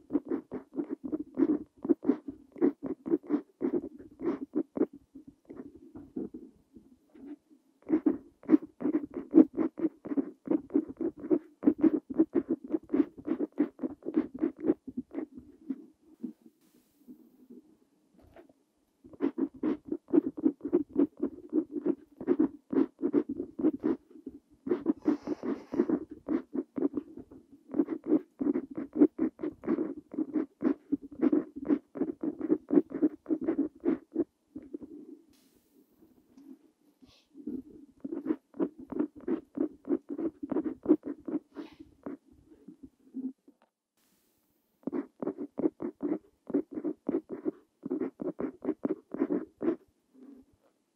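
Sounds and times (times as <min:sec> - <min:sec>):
pen nib scratching on paper: 0:00.0 - 0:06.3, 0:07.2 - 0:15.8, 0:19.1 - 0:34.9, 0:37.5 - 0:42.2, 0:44.8 - 0:50.4.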